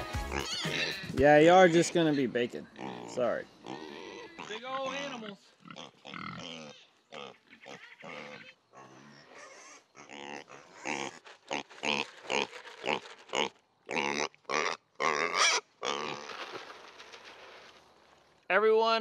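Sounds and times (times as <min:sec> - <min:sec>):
pigs grunting: 0:00.2 - 0:16.4.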